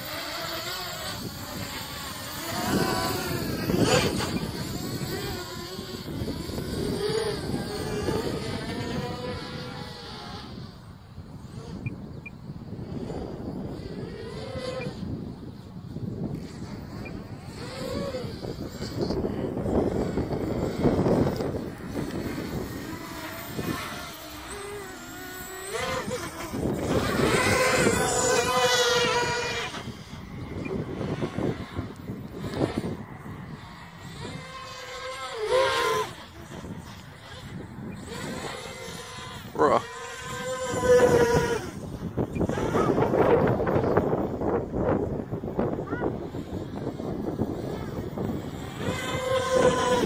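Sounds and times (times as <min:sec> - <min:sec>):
quadcopter motors whining: 0:00.0 - 0:50.0.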